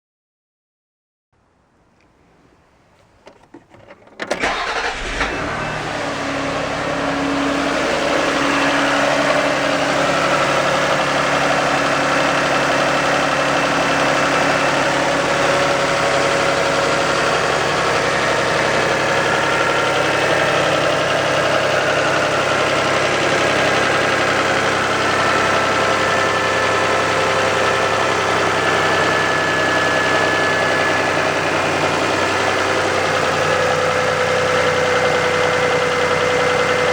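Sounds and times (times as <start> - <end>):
car engine starting and idling: 3.9 - 36.9.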